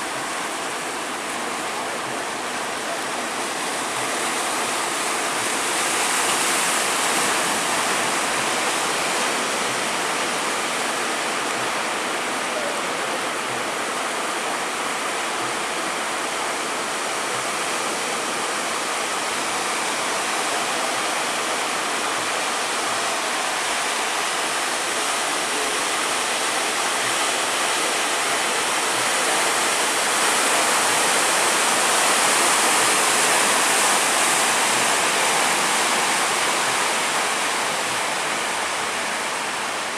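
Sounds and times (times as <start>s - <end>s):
rough sea water rushing: 0.0s - 39.9s.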